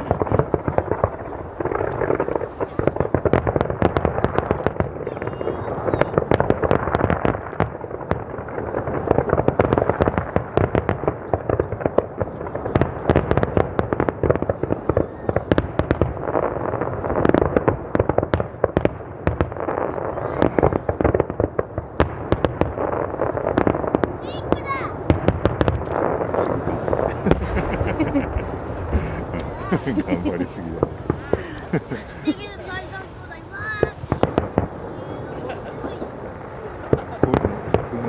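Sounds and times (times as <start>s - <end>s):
fireworks bursts: 0.0s - 38.0s
fireworks crackling: 0.0s - 38.0s
fireworks rumble: 0.0s - 38.0s.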